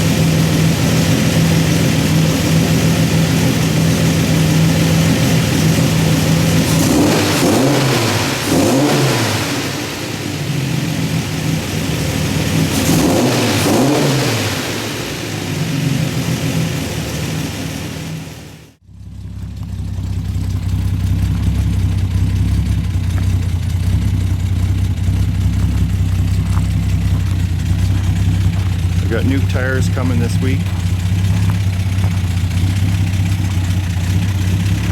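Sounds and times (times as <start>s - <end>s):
steady low engine drone: 0.0s - 8.6s, 9.4s - 13.2s, 14.7s - 34.9s
car engine revving: 0.0s - 34.9s.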